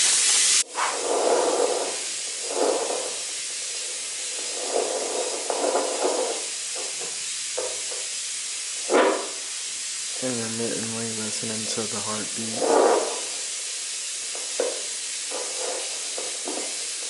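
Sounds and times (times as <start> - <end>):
doppler monitor static hiss: 0.0 - 17.0.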